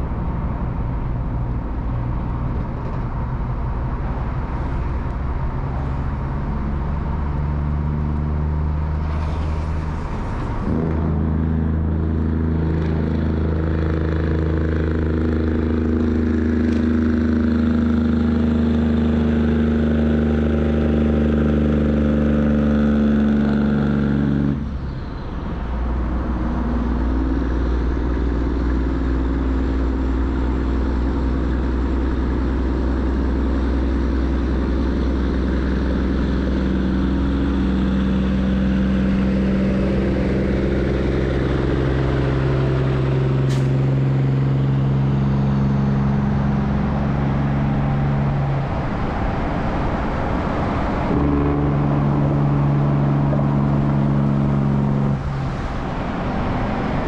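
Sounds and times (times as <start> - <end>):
heavy truck engines running: 0.0 - 21.5, 22.9 - 57.0
lower engine hum: 0.0 - 57.0.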